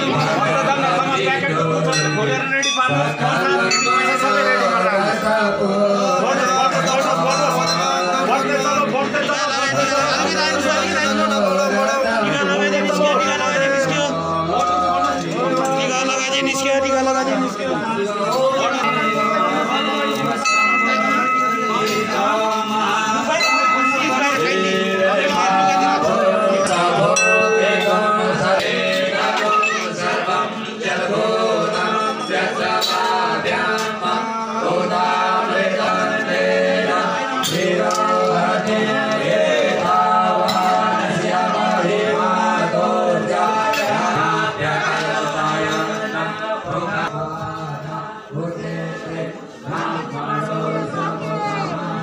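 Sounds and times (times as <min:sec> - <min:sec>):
men singing devotional song: 0:00.0 - 0:52.0.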